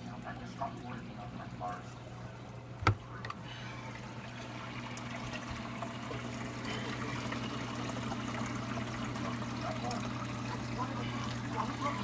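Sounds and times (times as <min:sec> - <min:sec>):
low equipment hum: 0:00.0 - 0:12.0
water trickling and splashing: 0:00.0 - 0:12.0.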